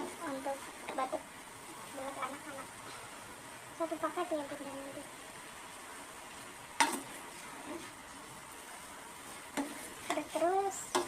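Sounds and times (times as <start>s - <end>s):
pot simmering on stove: 0.0s - 11.0s.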